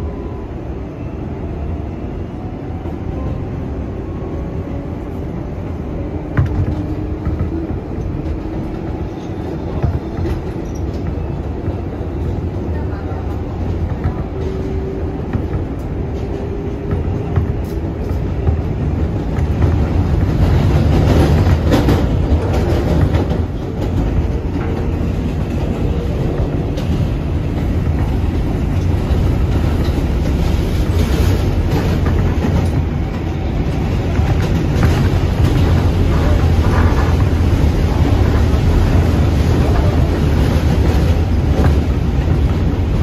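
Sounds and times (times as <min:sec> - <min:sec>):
subway train rumble: 0:00.0 - 0:43.0
wheels clacking over rails: 0:06.2 - 0:43.0.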